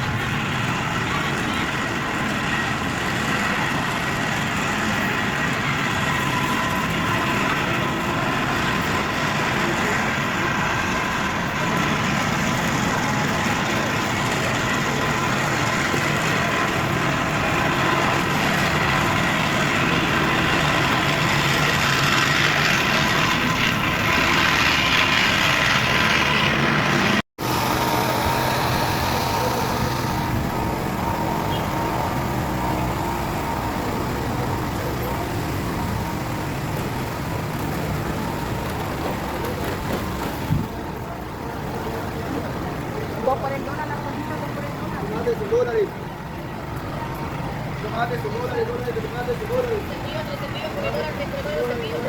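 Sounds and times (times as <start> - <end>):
street traffic engines idling: 0.0 - 52.0.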